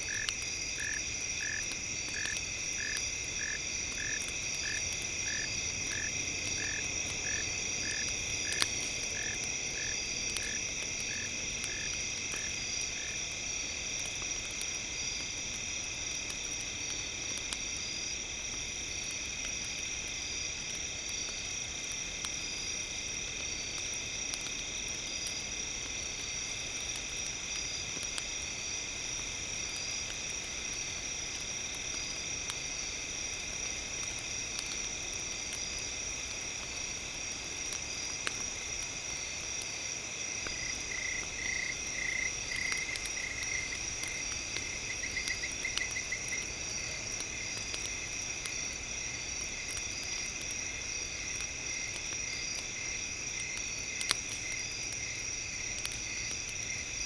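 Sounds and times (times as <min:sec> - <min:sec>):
campfire crackling: 0:00.0 - 0:57.0
insects chirping: 0:00.0 - 0:57.0.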